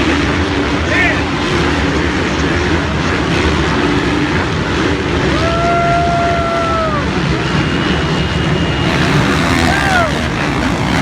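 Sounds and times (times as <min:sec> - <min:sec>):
dirt bike engines racing: 0:00.0 - 0:11.0.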